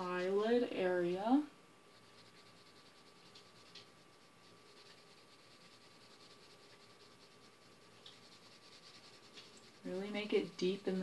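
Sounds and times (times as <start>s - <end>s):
pencil scratching on paper: 1.9s - 11.0s.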